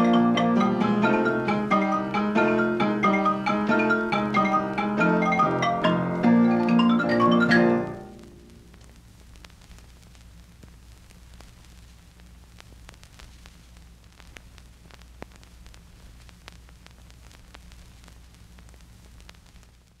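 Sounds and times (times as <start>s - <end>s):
film crackles and pops: 0.0s - 20.0s
low hum and hiss: 0.0s - 20.0s.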